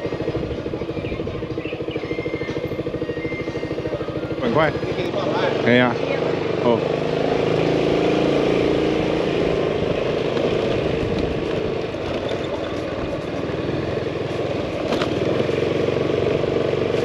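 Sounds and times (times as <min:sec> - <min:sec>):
road and wind noise: 0:00.0 - 0:17.0
scooter engine running: 0:00.0 - 0:17.0.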